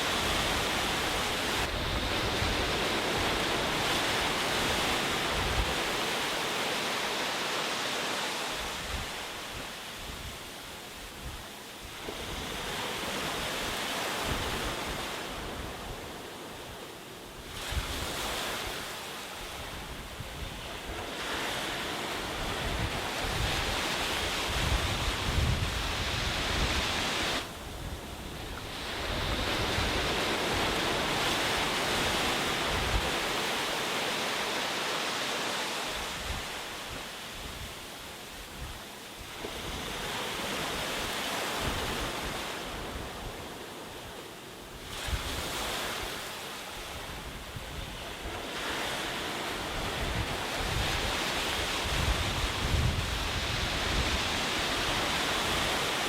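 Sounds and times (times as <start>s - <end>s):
wind rumble on microphone: 0.0s - 6.4s, 8.5s - 33.7s, 35.8s - 56.0s
sea waves breaking on beach: 0.0s - 56.0s.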